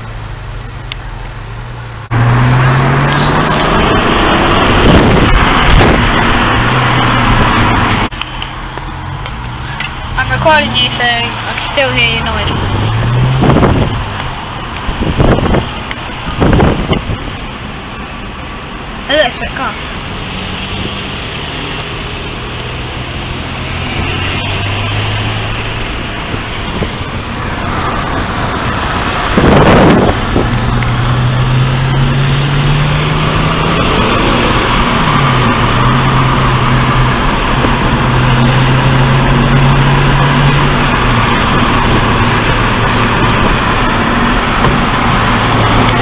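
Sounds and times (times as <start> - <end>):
car engine accelerating: 0.0 - 46.0
road noise inside car: 0.0 - 46.0.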